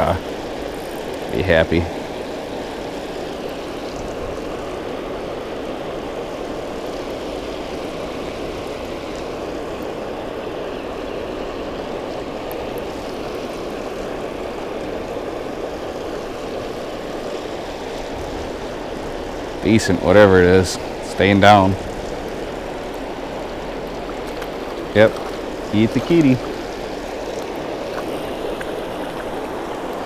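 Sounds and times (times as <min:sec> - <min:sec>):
water rushing over spillway: 0:00.0 - 0:30.0.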